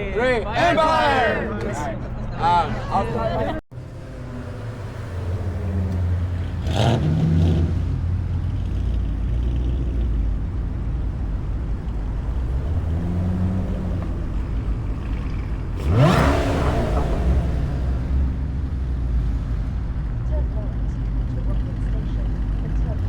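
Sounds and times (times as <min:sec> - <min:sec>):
car engine idling: 0:02.0 - 0:23.0
car engine revving: 0:03.2 - 0:23.0.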